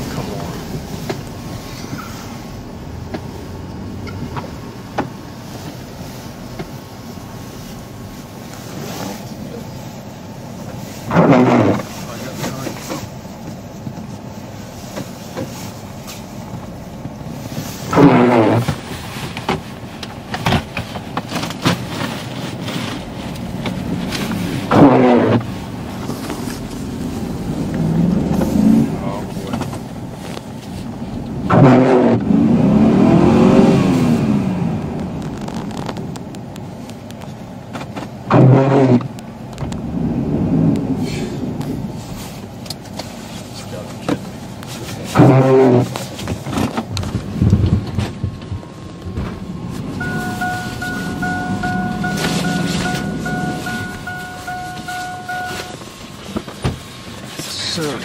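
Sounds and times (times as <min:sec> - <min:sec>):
vehicle rumbling through snow: 0:00.0 - 0:58.0.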